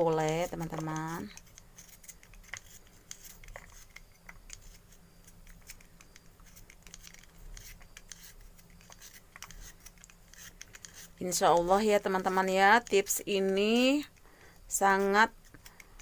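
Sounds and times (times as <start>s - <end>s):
knife cutting ginger: 0.0s - 16.0s.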